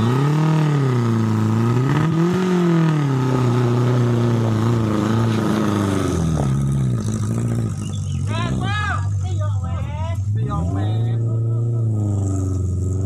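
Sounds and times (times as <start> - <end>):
engine working under load: 0.0 - 13.0.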